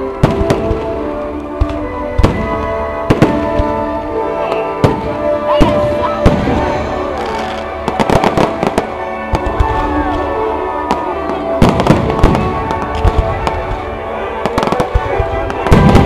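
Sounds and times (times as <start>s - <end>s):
fireworks bangs and crackles: 0.0s - 16.0s
steady music: 0.0s - 16.0s.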